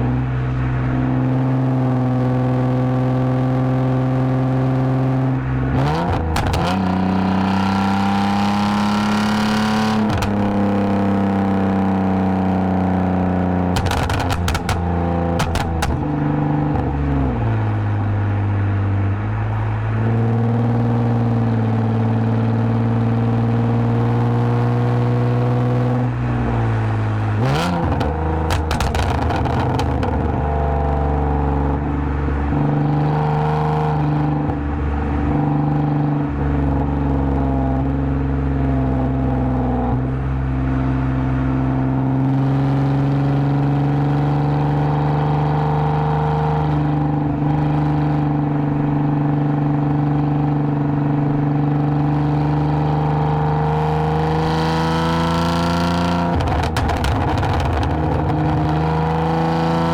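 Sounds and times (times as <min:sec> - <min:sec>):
car exhaust droning while cruising: 0:00.0 - 0:59.9.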